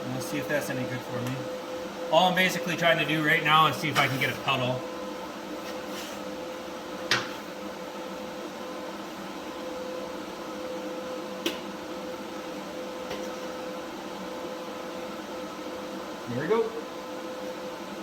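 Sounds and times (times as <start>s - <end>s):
welder electrical hum: 0.0s - 18.0s.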